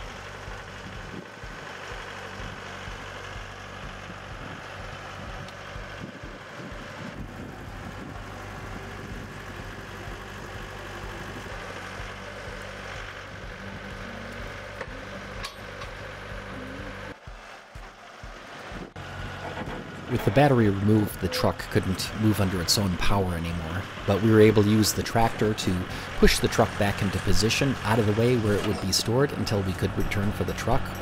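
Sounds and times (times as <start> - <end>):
tractor diesel engine idling: 0.0 - 31.0.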